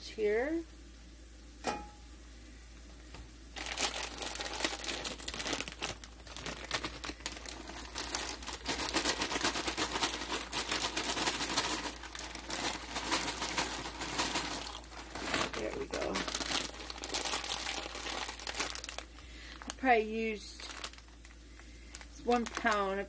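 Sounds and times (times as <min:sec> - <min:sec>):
pasta bag crinkling: 0:03.6 - 0:23.0.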